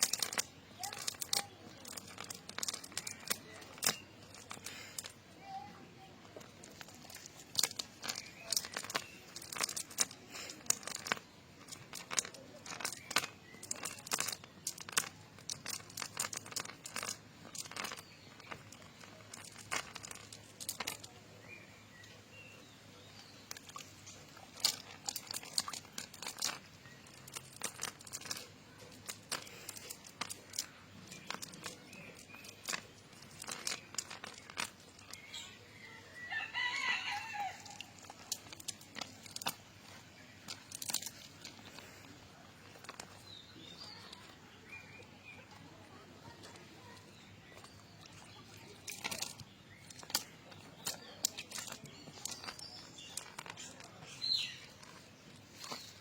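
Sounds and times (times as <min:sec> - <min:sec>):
sharp clicks and crackles: 0:00.0 - 0:56.0.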